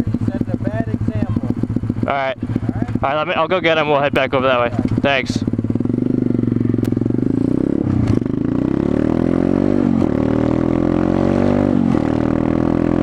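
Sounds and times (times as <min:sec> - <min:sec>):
motorbike engine accelerating: 0:00.0 - 0:13.0.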